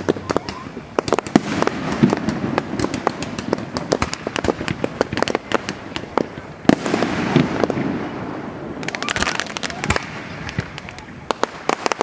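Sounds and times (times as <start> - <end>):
heavy firework bang: 0.0 - 5.7, 6.7 - 10.8
fireworks cracking and popping: 0.0 - 12.0.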